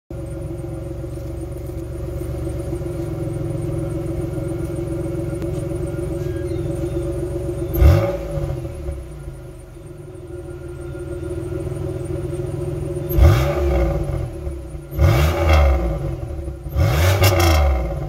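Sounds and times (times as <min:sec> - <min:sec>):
car exhaust idling: 0:00.1 - 0:18.0.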